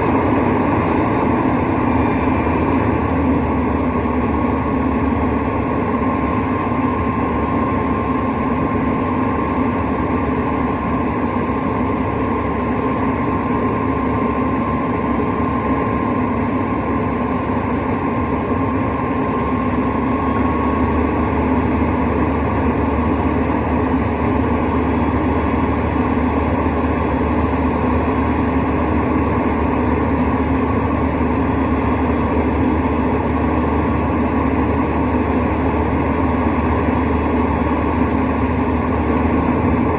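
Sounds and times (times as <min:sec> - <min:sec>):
hvac unit droning: 0:00.0 - 0:39.9.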